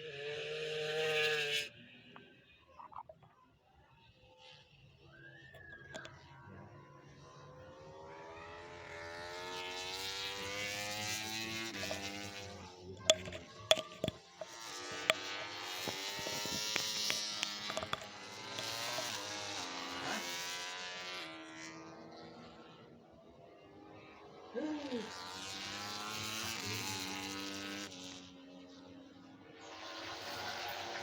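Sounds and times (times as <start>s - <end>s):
race motorcycles passing: 0.0s - 2.4s, 7.4s - 23.1s, 23.8s - 31.0s.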